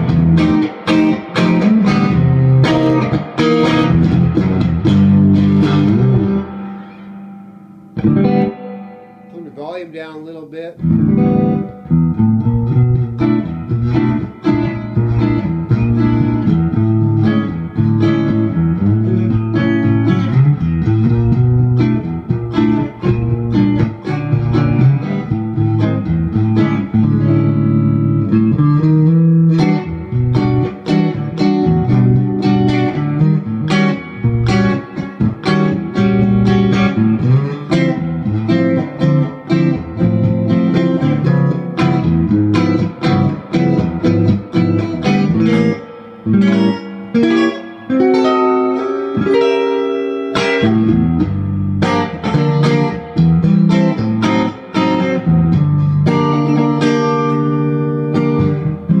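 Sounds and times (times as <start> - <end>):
blues-rock electric guitar: 0.0 - 9.4, 10.8 - 59.0.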